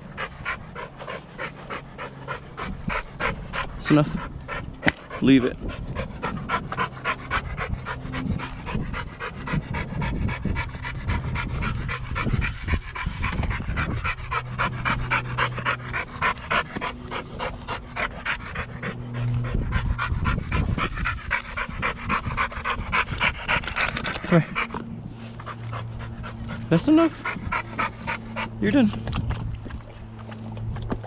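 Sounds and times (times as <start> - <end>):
dog panting: 0.0 - 31.0
low hum: 0.0 - 31.0.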